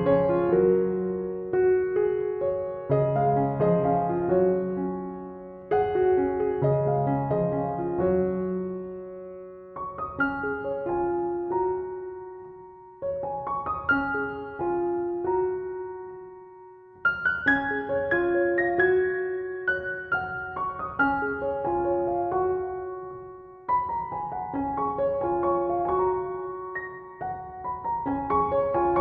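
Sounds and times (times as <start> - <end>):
soft piano music: 0.0 - 29.0.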